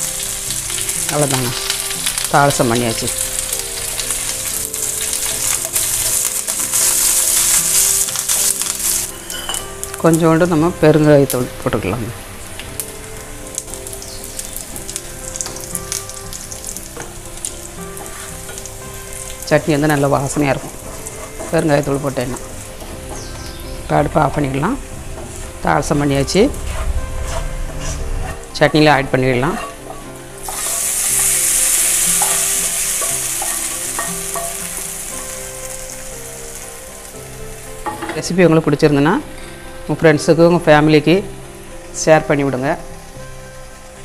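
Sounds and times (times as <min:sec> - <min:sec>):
spices sizzling in hot oil: 0:00.0 - 0:38.8.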